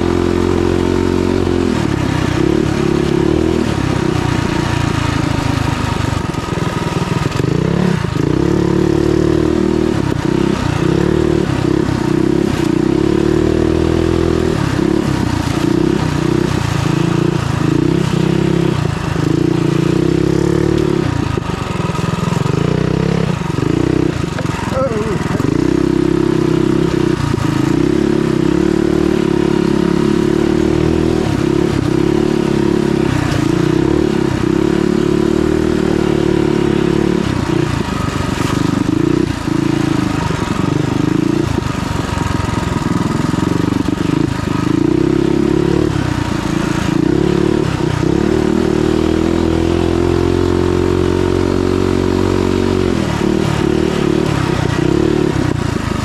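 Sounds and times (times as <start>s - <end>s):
small motorbike engine revving: 0.0s - 56.0s.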